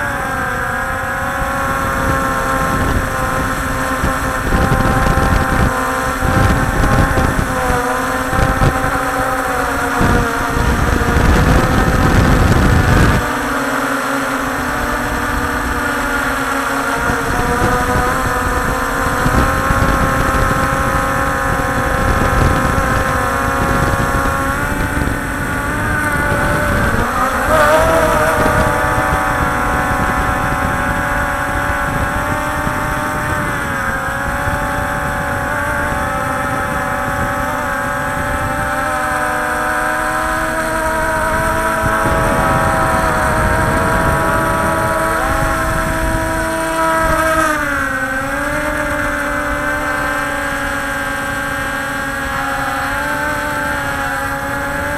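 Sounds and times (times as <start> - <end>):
drone propellers whining: 0.0 - 54.9.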